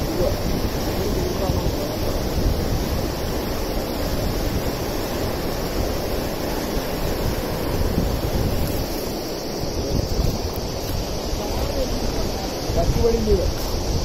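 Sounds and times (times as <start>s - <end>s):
river water rushing over rapids: 0.0s - 14.0s
wind buffeting microphone: 0.0s - 14.0s.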